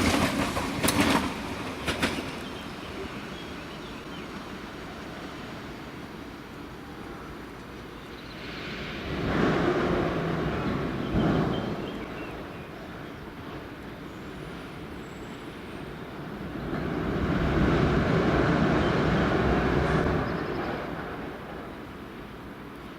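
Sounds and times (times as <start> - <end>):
high-speed train rushing past: 0.0 - 22.9.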